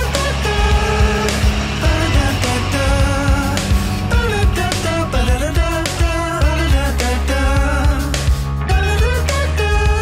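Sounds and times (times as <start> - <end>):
sliding melody line: 0.0 - 8.2
drum hits: 0.0 - 8.4.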